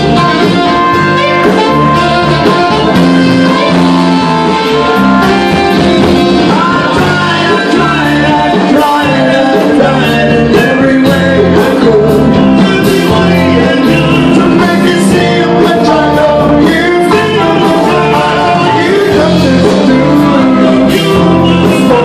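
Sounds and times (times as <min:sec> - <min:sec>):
bending lead melody: 0:00.0 - 0:22.0
live band playing: 0:00.0 - 0:22.0.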